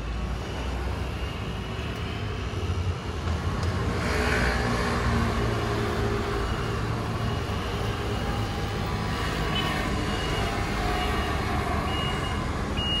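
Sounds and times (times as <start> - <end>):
scooters and cars passing: 0.0 - 13.0.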